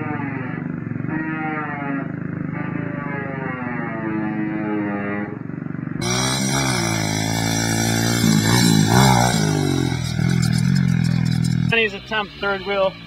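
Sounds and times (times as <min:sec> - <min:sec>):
small motorbike engine revving: 0:00.0 - 0:12.4.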